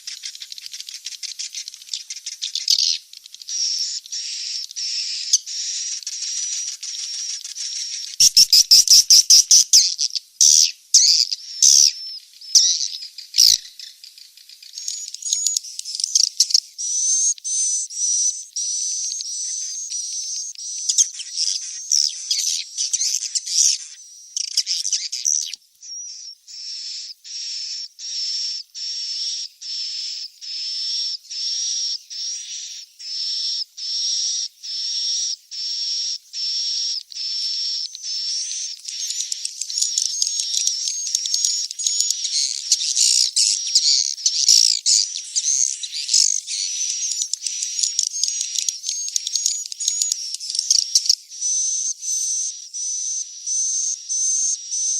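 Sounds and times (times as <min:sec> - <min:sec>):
bird chicks chirping: 0:00.0 - 0:54.9.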